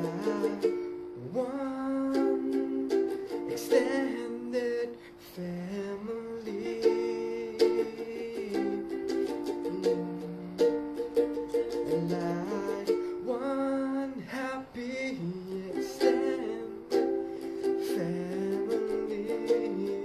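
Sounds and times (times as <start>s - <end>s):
person singing wordless melody: 0.0s - 20.0s
ukulele strumming: 0.0s - 20.0s.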